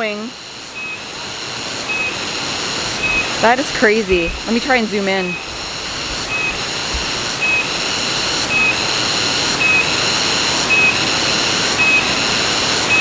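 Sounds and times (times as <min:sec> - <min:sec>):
insects buzzing: 0:00.0 - 0:13.0
waterfall rushing: 0:01.1 - 0:13.0.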